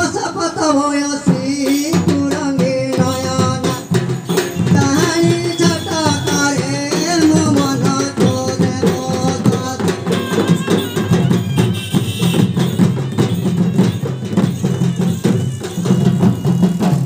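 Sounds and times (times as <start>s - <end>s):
folk drum ensemble beat: 0.0s - 17.0s.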